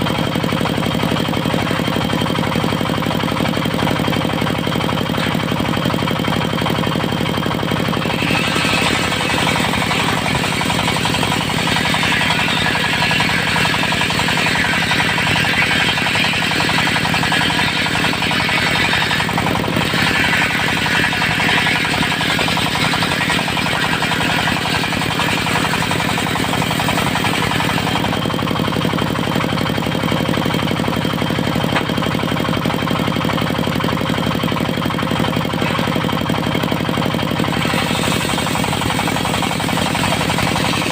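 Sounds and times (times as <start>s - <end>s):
diesel engine running: 0.0s - 40.9s
sawmill blade cutting wood: 0.0s - 40.9s.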